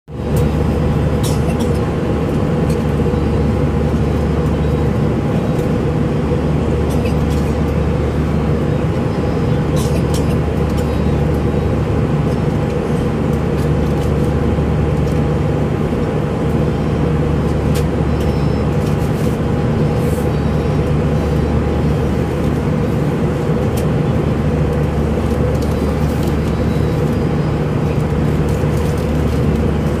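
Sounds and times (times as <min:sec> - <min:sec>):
airliner cabin drone: 0:00.1 - 0:30.0.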